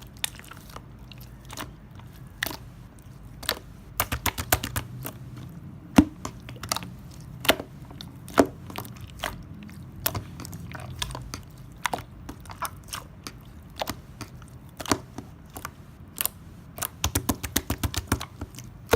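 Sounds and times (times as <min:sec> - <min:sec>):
slime squished by hand: 0:00.0 - 0:18.9.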